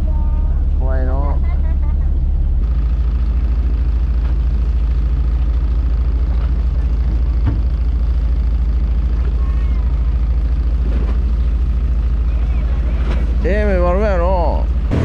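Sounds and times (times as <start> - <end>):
boat engine throbbing: 0.0 - 15.0.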